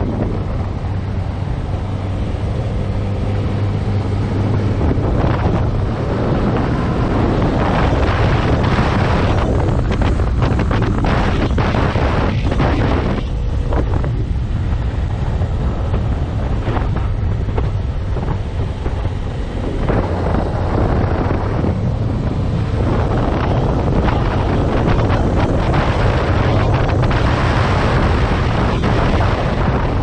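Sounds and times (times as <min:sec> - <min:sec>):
motorcycle riding at speed: 0:00.0 - 0:30.0
wind buffeting microphone: 0:00.0 - 0:30.0.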